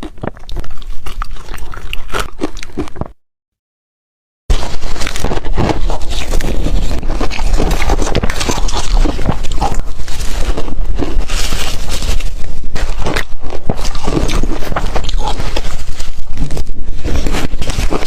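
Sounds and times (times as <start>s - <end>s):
ice being crunched and chewed: 0.0s - 3.2s, 4.5s - 18.0s.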